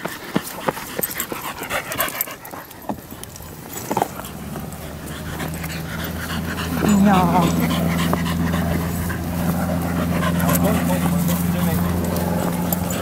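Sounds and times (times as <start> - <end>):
dog panting: 0.0 - 13.0
scuffs and clicks: 0.0 - 13.0.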